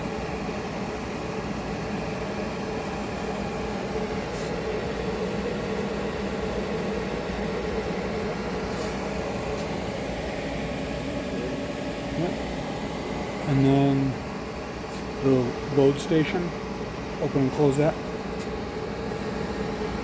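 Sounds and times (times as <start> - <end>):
conveyor mechanical hum: 0.0 - 20.0.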